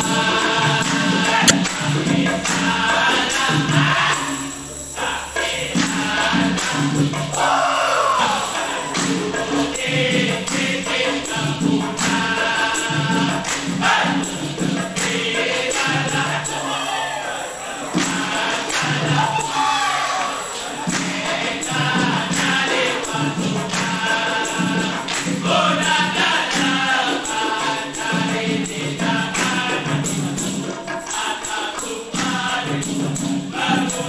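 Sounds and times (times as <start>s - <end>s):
hand percussion beat: 0.0s - 34.0s
vocal group singing in harmony: 0.0s - 34.0s.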